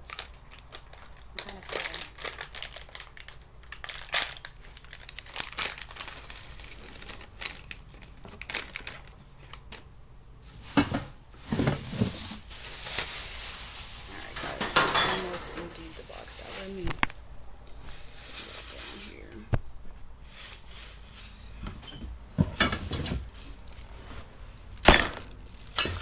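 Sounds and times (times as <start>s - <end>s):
packaging crinkling and rustling: 0.0s - 6.1s, 7.2s - 9.9s, 10.5s - 17.2s, 17.8s - 19.6s, 20.2s - 26.0s.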